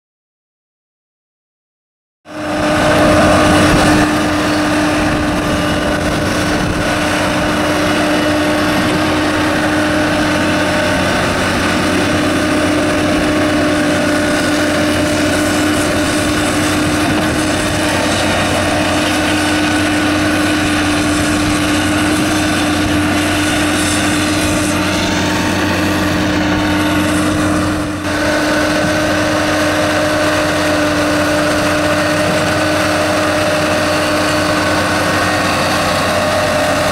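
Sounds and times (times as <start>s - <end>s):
diesel engine running under load: 2.3s - 36.9s.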